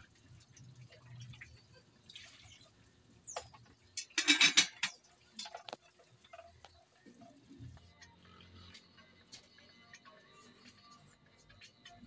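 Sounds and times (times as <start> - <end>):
broth simmering and bubbling: 0.0 - 12.0.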